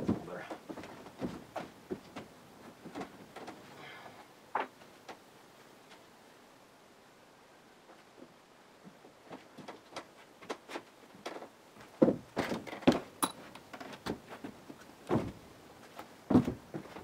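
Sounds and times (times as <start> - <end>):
footsteps on boards: 0.0 - 5.2, 8.2 - 17.0.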